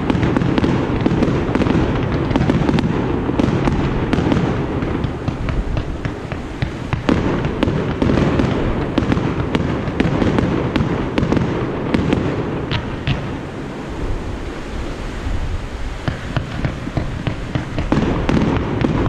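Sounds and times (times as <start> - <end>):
fireworks popping and crackling: 0.0 - 13.8, 16.0 - 19.0
dense rumble of fireworks bursts: 0.0 - 19.0.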